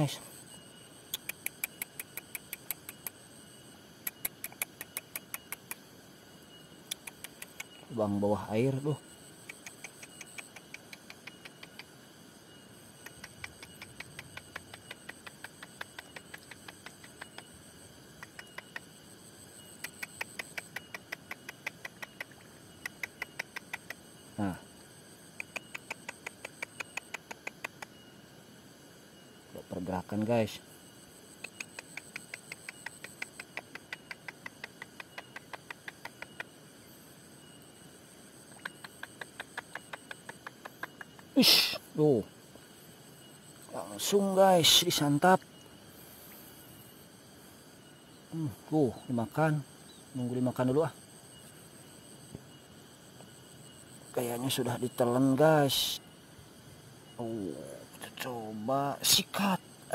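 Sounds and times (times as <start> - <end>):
faint high steady whine: 0.0 - 59.9
faint high-pitched hum: 0.0 - 59.9
insect clicking call: 0.0 - 59.9.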